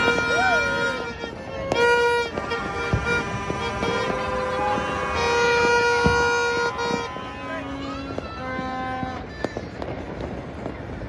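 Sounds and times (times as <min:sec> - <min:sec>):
vehicle horns honking: 0:00.0 - 0:09.3.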